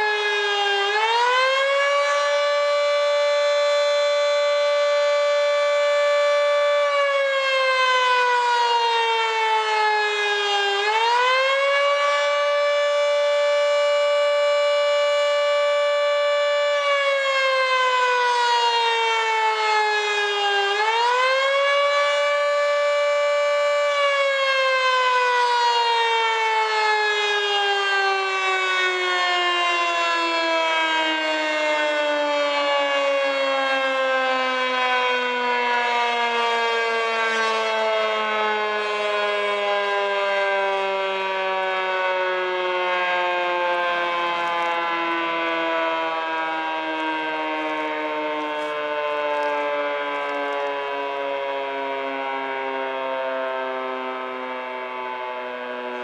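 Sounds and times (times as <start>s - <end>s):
warning siren winding: 0.2s - 56.0s.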